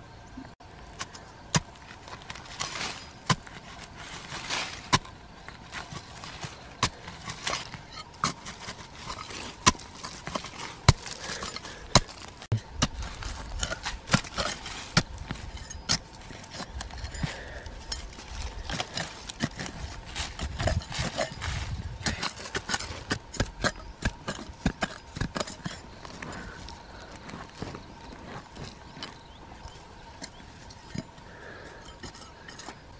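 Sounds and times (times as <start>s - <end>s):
digging knocks and scrapes in soil: 0.5s - 32.9s.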